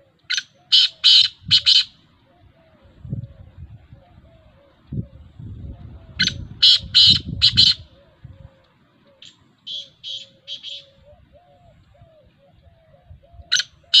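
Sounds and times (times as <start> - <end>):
francolin calling: 0.0 - 5.2, 5.9 - 14.0.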